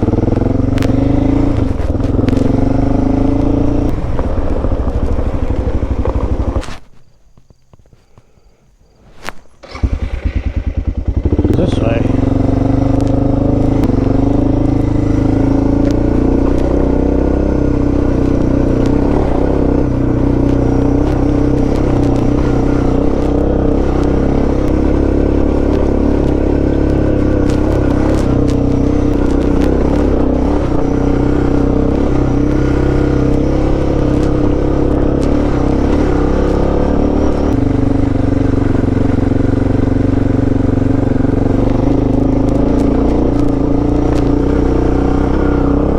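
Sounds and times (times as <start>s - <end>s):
motorcycle engine running: 0.0s - 7.8s, 9.6s - 45.9s.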